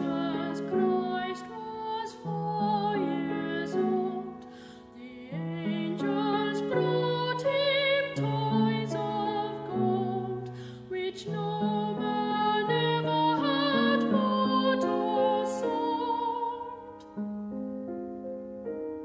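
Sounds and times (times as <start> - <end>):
slow gentle music: 0.0 - 19.0.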